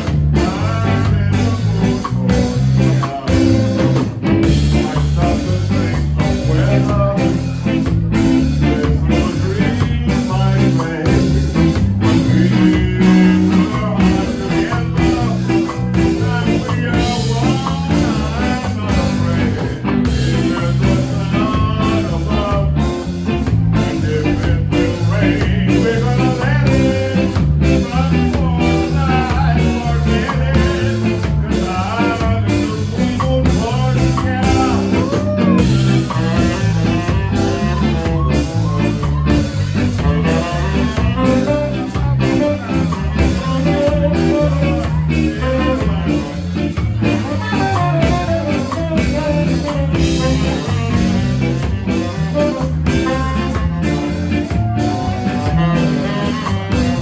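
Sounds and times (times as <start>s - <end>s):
man singing: 0.0s - 57.0s
ska band playing: 0.0s - 57.0s.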